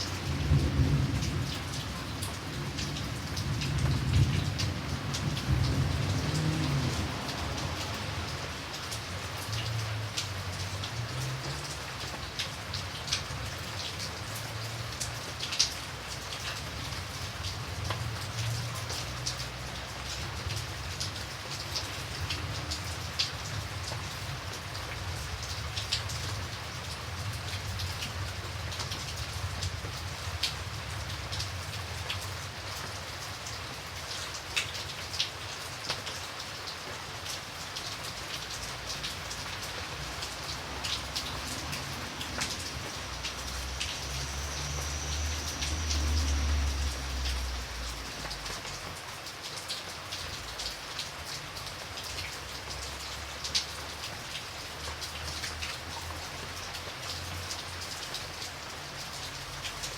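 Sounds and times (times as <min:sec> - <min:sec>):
raindrops tapping close by: 0:00.0 - 0:59.9
steady rain falling: 0:00.0 - 0:59.9.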